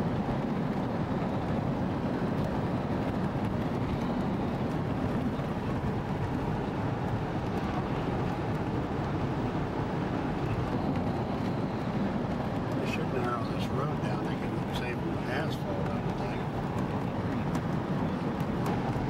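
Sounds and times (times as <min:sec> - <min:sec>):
vehicle rumbling: 0:00.0 - 0:19.0.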